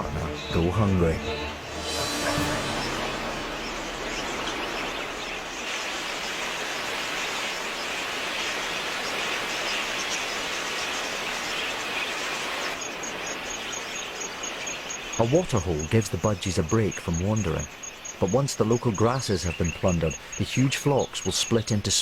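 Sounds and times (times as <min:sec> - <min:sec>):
budgerigar flock chattering: 0:00.0 - 0:03.0, 0:03.6 - 0:22.0
insect chirping: 0:00.0 - 0:22.0.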